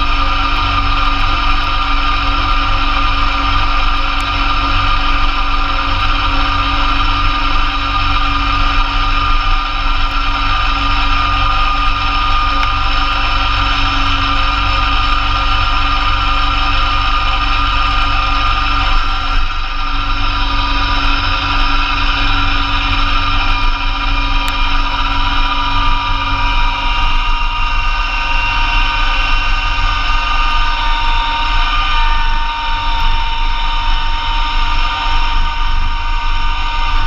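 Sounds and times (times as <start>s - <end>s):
snowblower mechanical whine: 0.0s - 37.0s
tractor diesel engine running: 0.0s - 37.0s.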